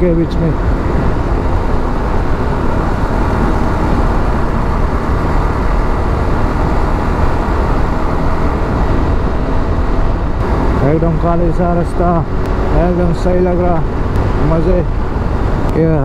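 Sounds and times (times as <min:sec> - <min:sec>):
motorcycle engine running: 0:00.0 - 0:16.0
road noise: 0:00.0 - 0:16.0
wind rushing over microphone: 0:00.0 - 0:16.0.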